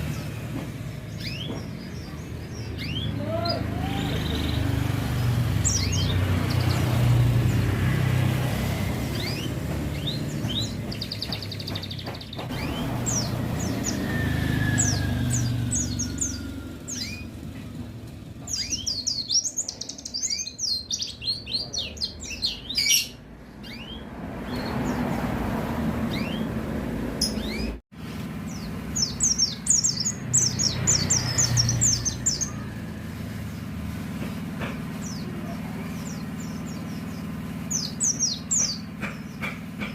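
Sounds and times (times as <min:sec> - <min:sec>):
traffic rumbling: 0:00.0 - 0:39.9
bird singing high chirps: 0:01.0 - 0:07.8, 0:08.7 - 0:25.2, 0:26.1 - 0:26.6, 0:27.2 - 0:27.8, 0:28.4 - 0:33.1, 0:35.0 - 0:39.5.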